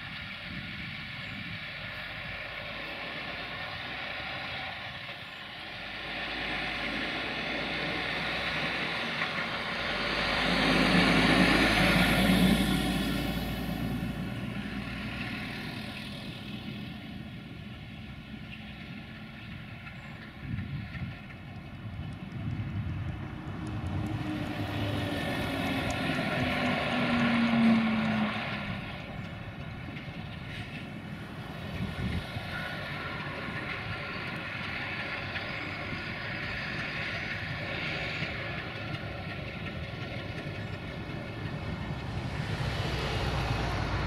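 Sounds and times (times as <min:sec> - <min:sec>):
diesel locomotive engine running: 0:00.0 - 0:44.0
lorry driving past: 0:02.0 - 0:20.0, 0:22.9 - 0:44.0.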